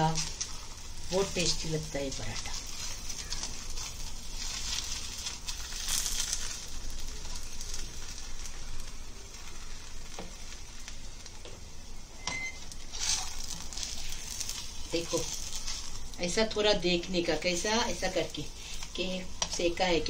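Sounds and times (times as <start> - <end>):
oil sizzling in a frying pan: 0.0 - 20.0.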